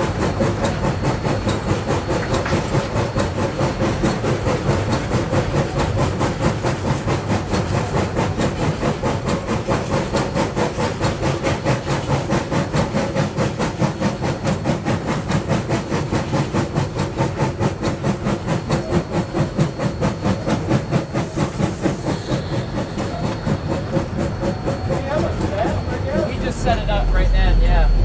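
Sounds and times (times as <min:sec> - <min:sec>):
rail rumble: 0:00.0 - 0:28.0
steam hiss: 0:00.0 - 0:28.0
steam locomotive exhaust chuffing: 0:00.0 - 0:28.0.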